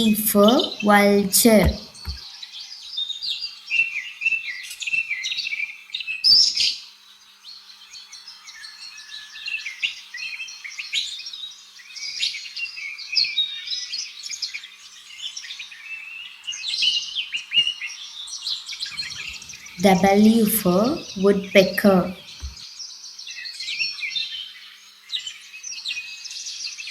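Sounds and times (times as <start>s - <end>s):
birds chirping and twittering: 0.0s - 26.9s.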